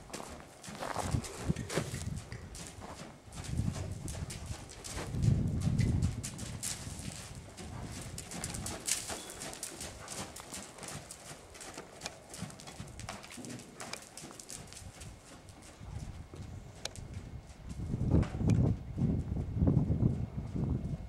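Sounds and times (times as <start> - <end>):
horse hoofbeats on sand: 0.0 - 21.0.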